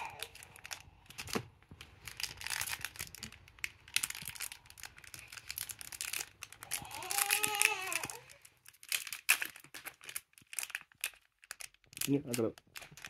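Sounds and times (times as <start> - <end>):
foil pack crinkling and tearing: 0.0 - 13.0.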